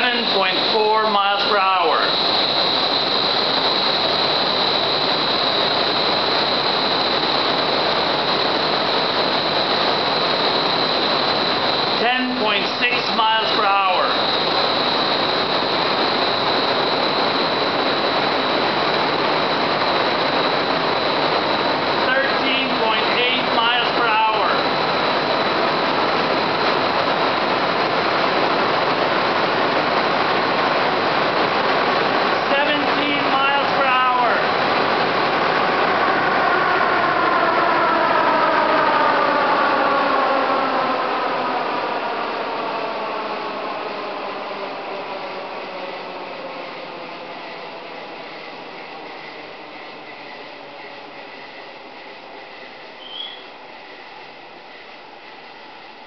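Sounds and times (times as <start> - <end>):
fan air rushing: 0.0 - 56.0
high fan whine: 0.0 - 56.0.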